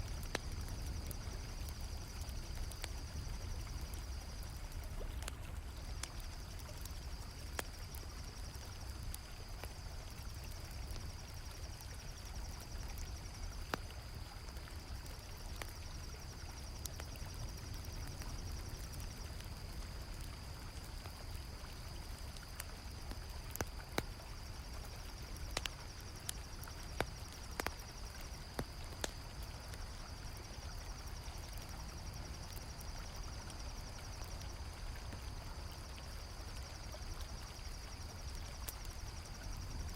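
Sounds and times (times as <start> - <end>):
campfire crackling pops: 0.0 - 39.9
cricket trill: 0.0 - 39.9.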